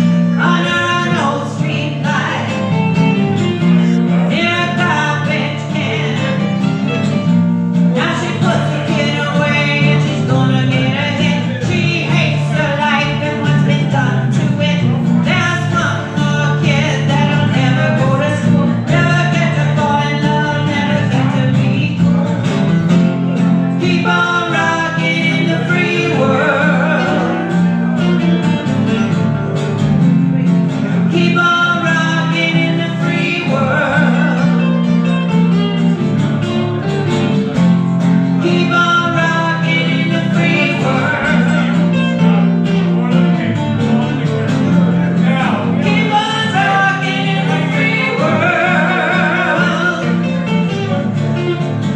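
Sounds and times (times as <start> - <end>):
person singing: 0.0 - 29.6, 30.7 - 51.8
acoustic guitars playing: 0.0 - 51.9.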